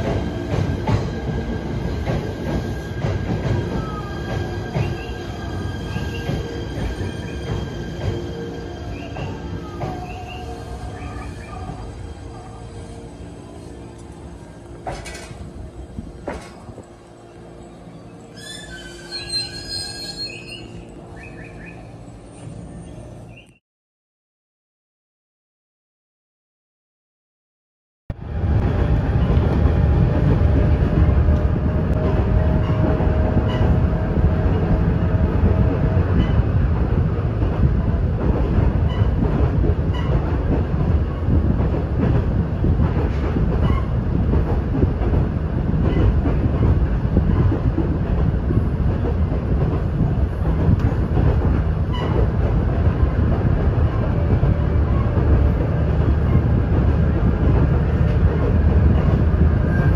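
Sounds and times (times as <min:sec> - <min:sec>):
railcar engine and wheels rumble: 0:00.0 - 0:23.6, 0:28.1 - 0:59.9.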